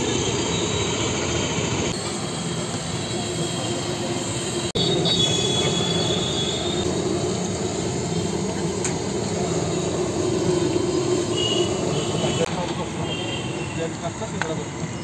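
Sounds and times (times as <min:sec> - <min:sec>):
fritters deep-frying in oil: 0:00.0 - 0:15.0.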